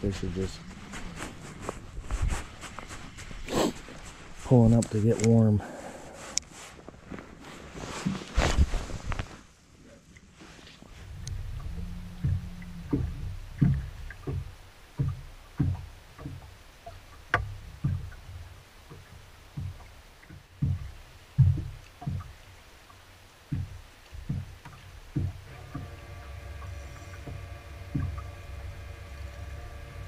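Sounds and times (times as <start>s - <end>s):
waves slapping boat hull: 0.0s - 30.0s.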